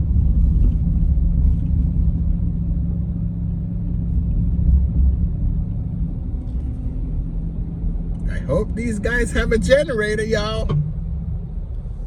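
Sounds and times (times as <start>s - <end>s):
car engine drone: 0.0s - 12.0s
road noise rumble: 0.0s - 12.0s.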